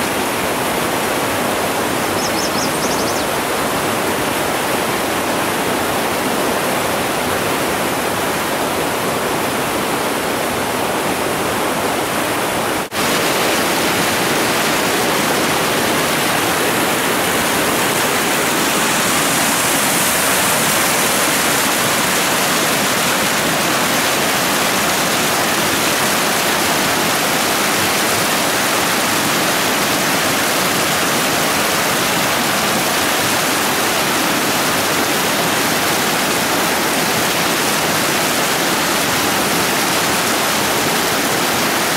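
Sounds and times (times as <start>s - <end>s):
whitewater rapids rushing: 0.0s - 41.9s.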